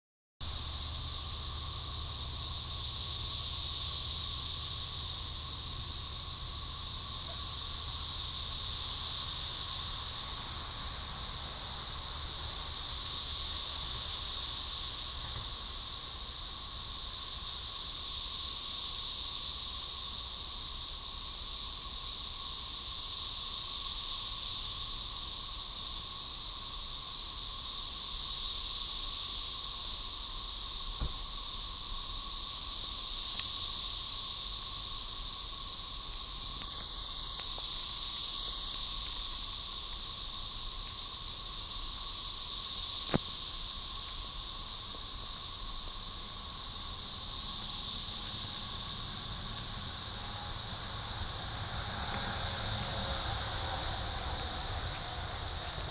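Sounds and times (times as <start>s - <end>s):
cicadas buzzing in chorus: 0.4s - 55.9s.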